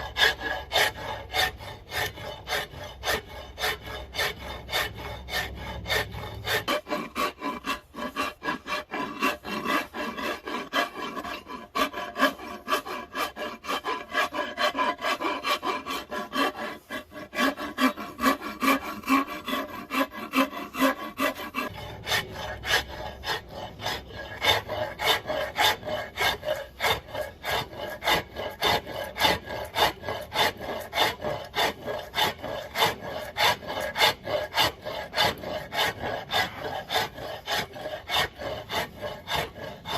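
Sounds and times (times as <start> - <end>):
hand tool scraping wood: 0.0 - 39.9.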